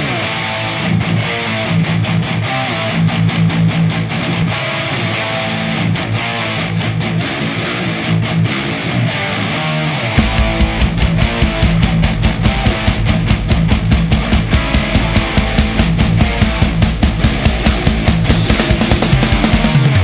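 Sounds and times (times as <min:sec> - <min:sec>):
strummed electric guitar music: 0:00.0 - 0:20.0.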